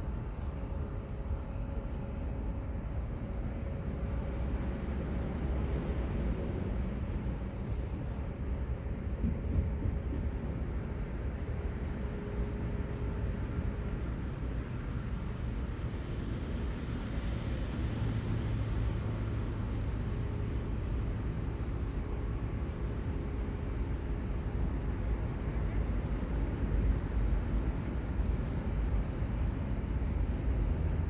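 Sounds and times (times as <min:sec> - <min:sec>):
seaside ambience rumble: 0:00.0 - 0:31.0.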